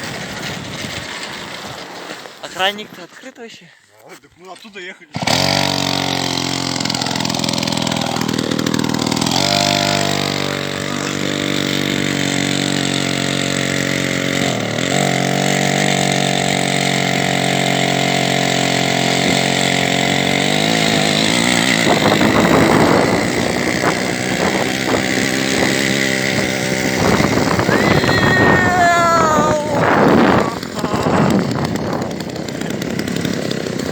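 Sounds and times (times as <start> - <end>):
two-stroke engine revving: 5.1 - 33.9.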